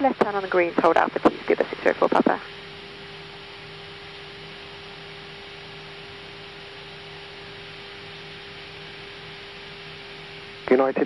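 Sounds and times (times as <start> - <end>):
radio hiss with hum: 0.0 - 11.0.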